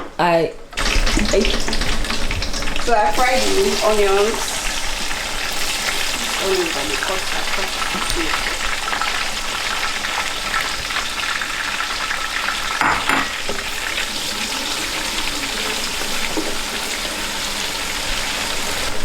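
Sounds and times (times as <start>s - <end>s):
onions sizzling in hot oil: 0.8s - 19.0s.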